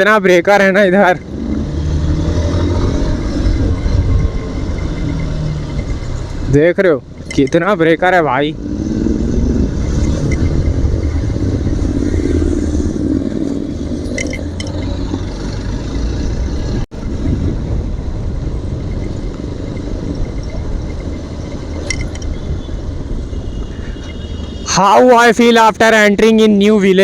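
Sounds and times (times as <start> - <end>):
wind rumble on microphone: 1.2 - 24.6.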